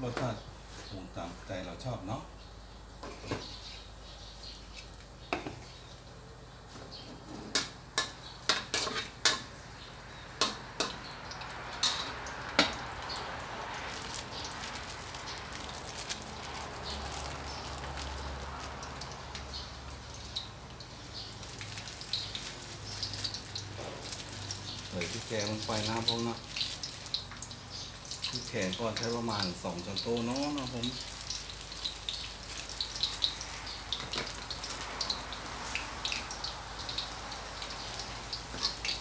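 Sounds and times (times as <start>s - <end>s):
garlic sizzling in oil: 7.6s - 39.0s.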